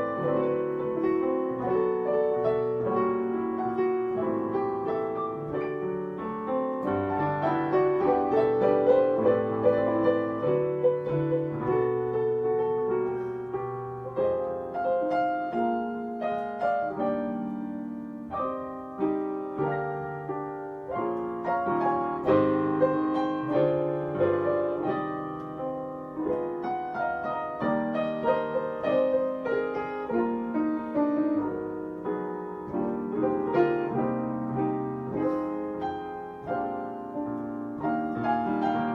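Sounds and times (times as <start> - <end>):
piano melody over chords: 0.0 - 38.9.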